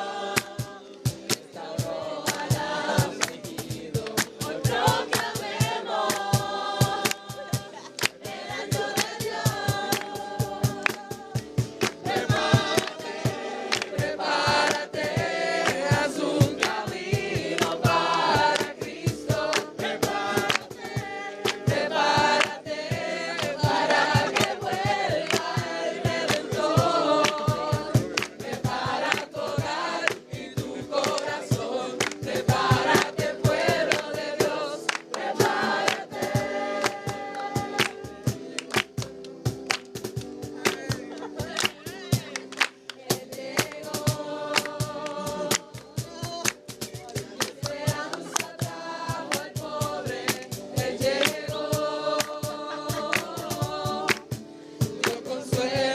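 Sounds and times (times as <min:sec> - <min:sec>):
fast percussive beat: 0:00.0 - 0:55.9
group of voices singing gospel: 0:00.0 - 0:55.9.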